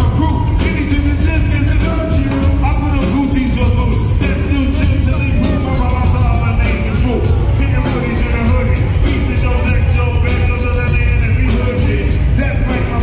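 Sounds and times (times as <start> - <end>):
amplified vocals: 0.0 - 13.0
beat with heavy bass: 0.0 - 13.0.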